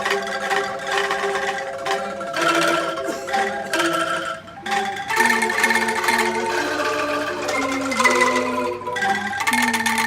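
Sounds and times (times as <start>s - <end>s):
angklung ensemble tremolo: 0.0s - 10.0s.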